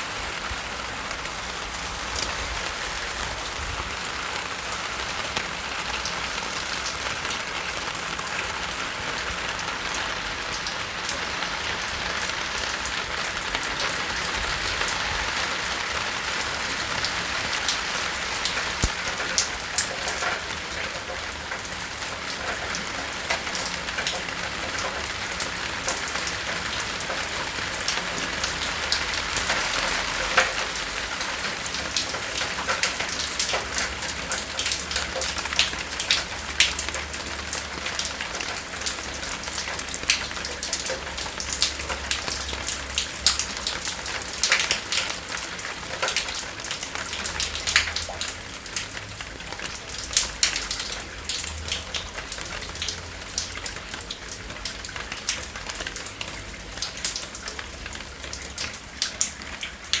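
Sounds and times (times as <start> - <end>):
raindrops ticking close by: 0.0 - 60.0
steady rain hiss: 0.0 - 60.0.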